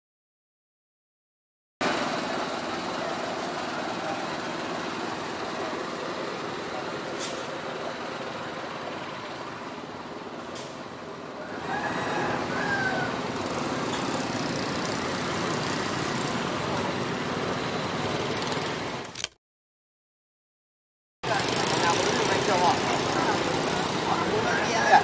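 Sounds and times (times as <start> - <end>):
motorbike engines running: 1.8 - 19.1, 21.2 - 25.0.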